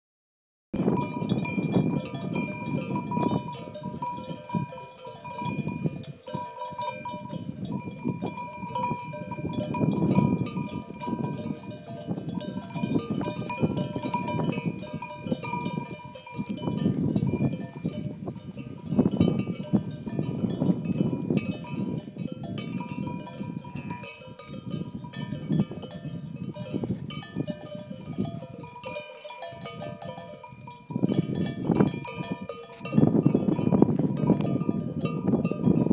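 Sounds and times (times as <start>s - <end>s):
lamb's bell clinking: 0.8s - 35.9s.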